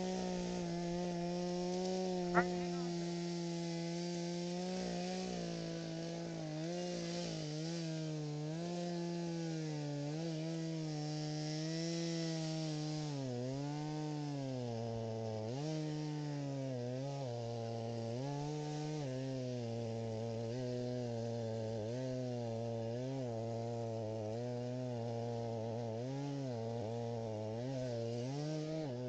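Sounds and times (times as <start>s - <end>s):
small engine running at high speed: 0.0s - 29.0s.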